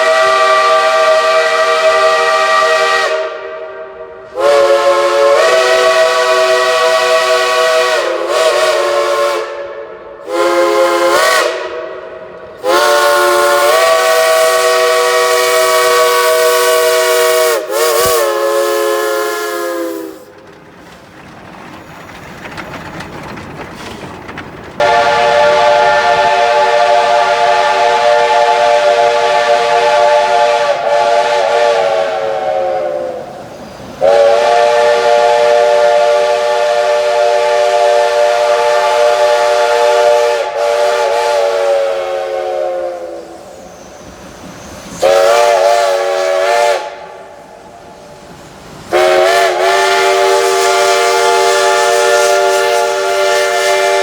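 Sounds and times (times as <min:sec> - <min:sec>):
steam locomotive whistle blasts: 0:00.0 - 0:20.4, 0:24.8 - 0:48.1, 0:48.8 - 0:54.0
hissing steam: 0:00.0 - 0:54.0.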